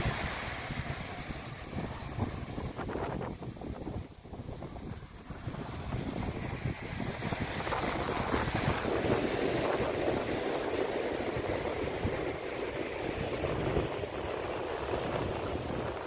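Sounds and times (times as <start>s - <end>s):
ocean surf washing on shore: 0.0s - 16.0s
wind rumble on microphone: 0.0s - 16.0s.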